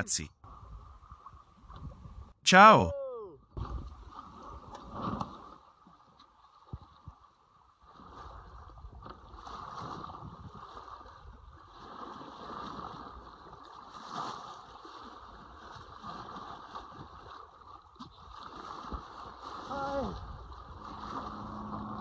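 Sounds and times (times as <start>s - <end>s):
water splashing along boat hull: 3.6s - 22.0s.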